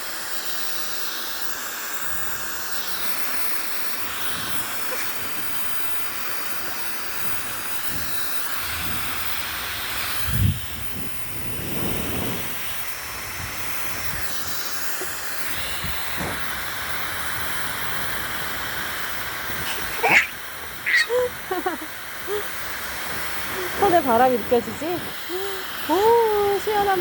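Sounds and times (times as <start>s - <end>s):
hair dryer blowing: 1.8s - 27.0s.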